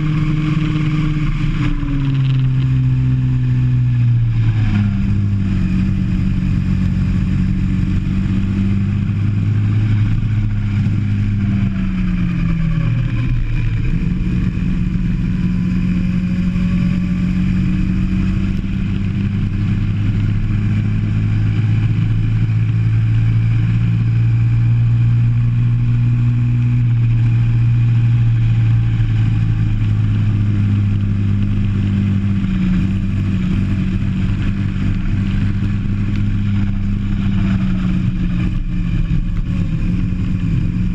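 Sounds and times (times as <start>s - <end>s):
go-kart engine: 0.0s - 40.9s.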